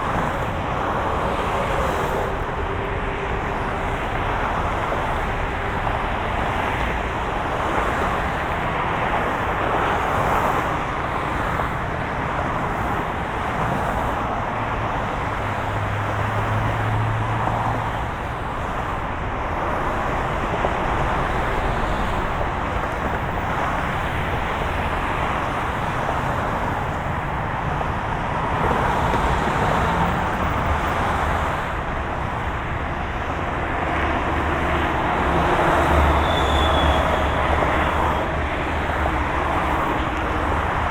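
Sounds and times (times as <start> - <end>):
cars passing: 0.0 - 40.9.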